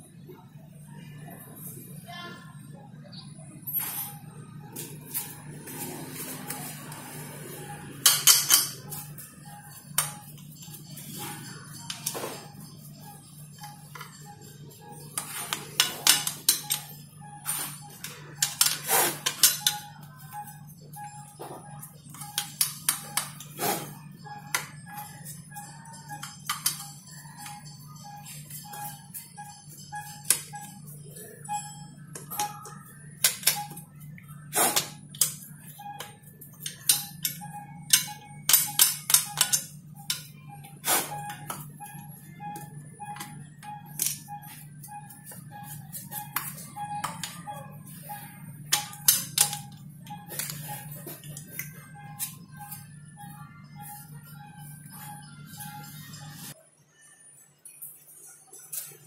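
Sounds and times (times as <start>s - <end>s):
hand tools clicking and scraping: 4.0s - 31.4s, 32.0s - 56.6s.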